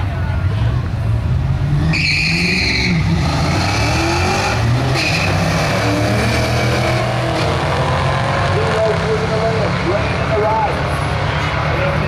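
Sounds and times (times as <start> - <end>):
car engine accelerating hard: 1.4 - 12.0.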